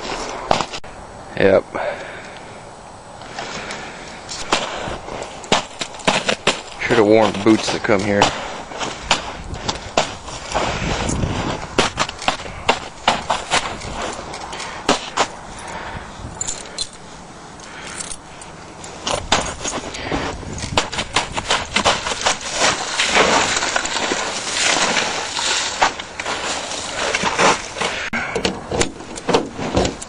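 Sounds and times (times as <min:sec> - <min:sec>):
footsteps crunching through snow: 0:00.0 - 0:00.8, 0:03.3 - 0:28.2.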